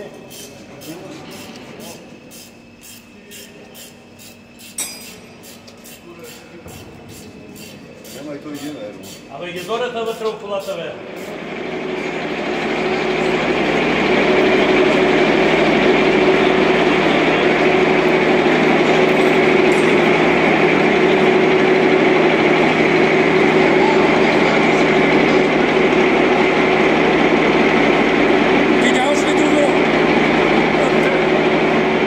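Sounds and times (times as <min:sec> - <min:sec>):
electric jack motors humming: 0:00.0 - 0:32.0.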